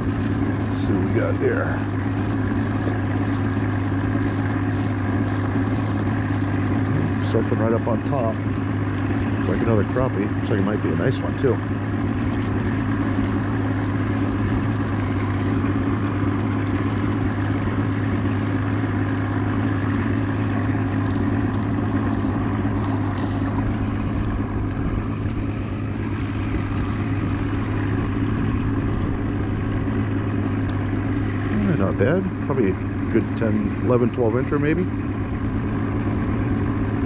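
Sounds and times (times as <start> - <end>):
boat motor humming: 0.0 - 37.0.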